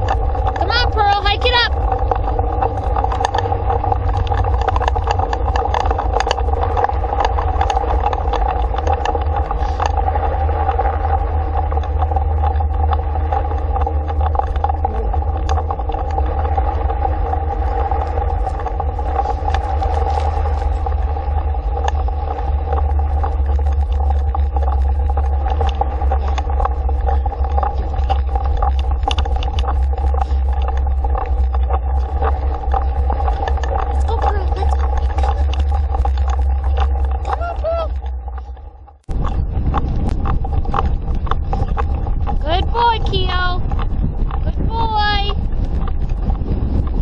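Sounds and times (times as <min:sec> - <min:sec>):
small rattles and clicks: 0:00.0 - 0:47.0
steady tone: 0:00.0 - 0:47.0
wheel and wind rumble: 0:00.0 - 0:47.0.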